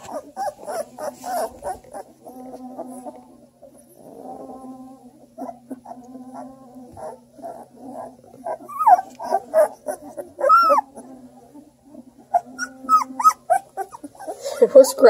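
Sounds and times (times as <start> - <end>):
puppies whimpering and squeaking: 0.0 - 15.0
puppy whining: 0.0 - 15.0.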